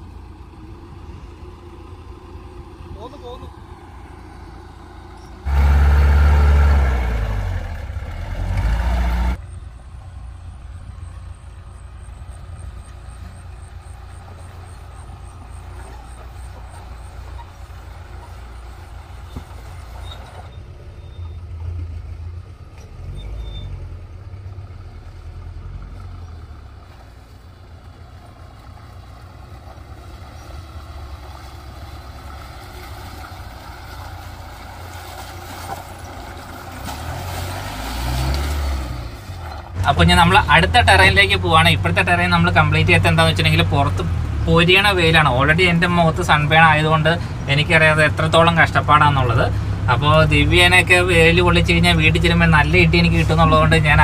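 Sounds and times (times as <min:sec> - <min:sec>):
jeep engine revving: 0:00.0 - 0:54.0
low engine rumble: 0:00.0 - 0:54.0.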